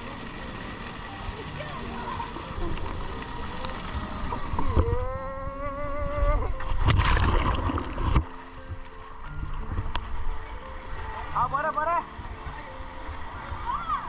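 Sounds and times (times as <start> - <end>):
water splashing and rushing: 0.0 - 5.1, 6.5 - 14.0.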